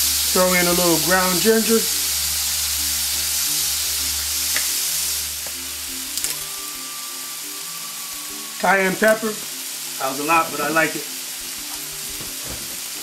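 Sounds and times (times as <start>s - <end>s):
background music: 0.0s - 13.0s
food sizzling in a frying pan: 0.0s - 13.0s.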